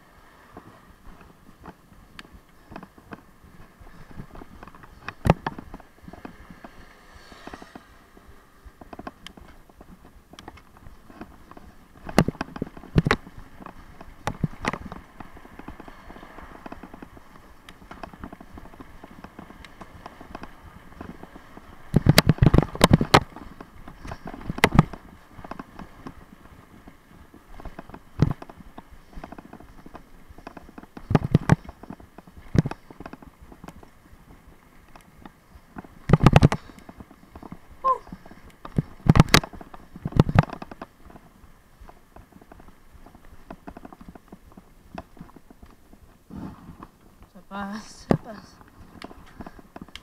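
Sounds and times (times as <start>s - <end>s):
bicycle rattling over bumps: 0.0s - 50.0s.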